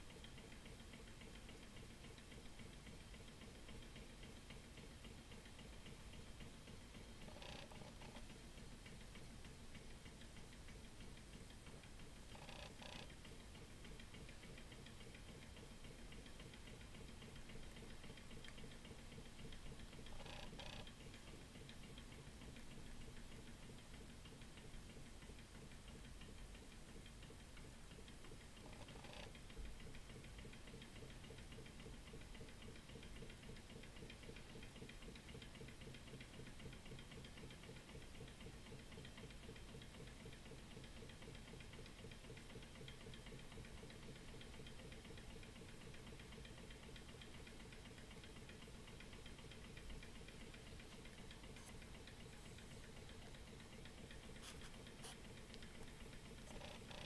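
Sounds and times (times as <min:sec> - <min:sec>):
model engine ticking: 0:00.0 - 0:57.0.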